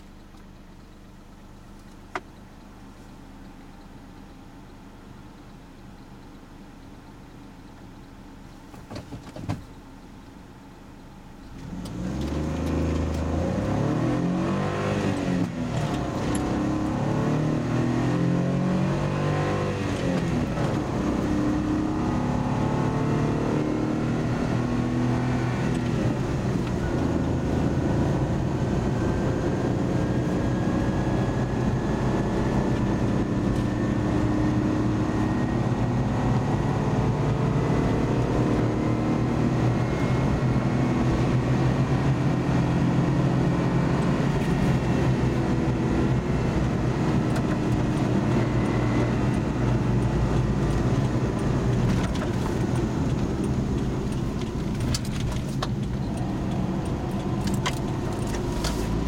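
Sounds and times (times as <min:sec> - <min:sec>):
car engine accelerating: 0:11.2 - 0:59.0.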